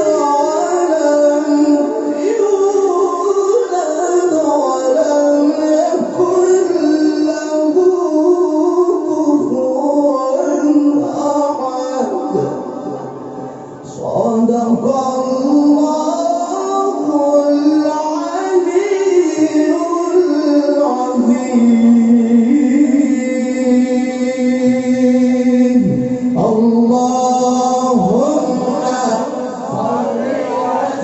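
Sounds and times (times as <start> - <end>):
man reciting melodically: 0.0 - 31.0.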